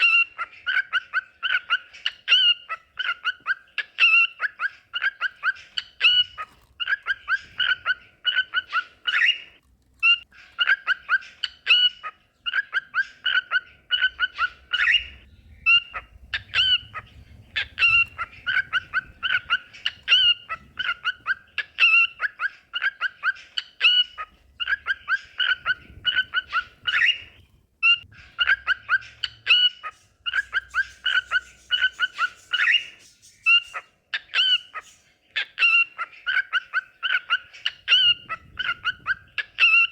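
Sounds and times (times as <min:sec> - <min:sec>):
cockatiels chirping and whistling: 0:00.0 - 0:39.9.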